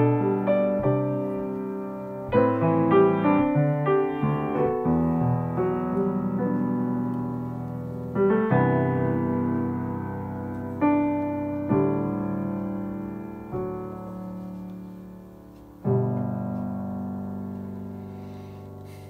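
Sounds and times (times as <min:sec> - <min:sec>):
grand piano chords: 0:00.0 - 0:19.0.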